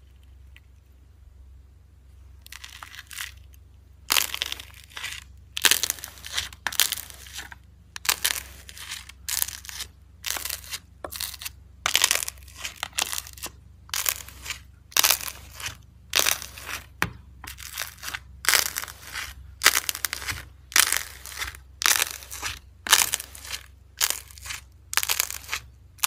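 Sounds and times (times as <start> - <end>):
crackling noise: 2.4 - 26.0
spoon stirring bubbly slime: 4.2 - 25.7.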